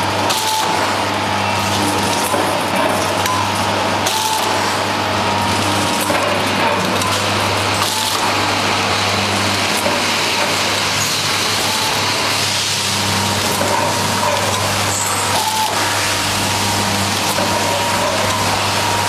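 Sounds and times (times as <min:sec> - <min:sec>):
bagging machine hum and hiss: 0:00.0 - 0:19.0.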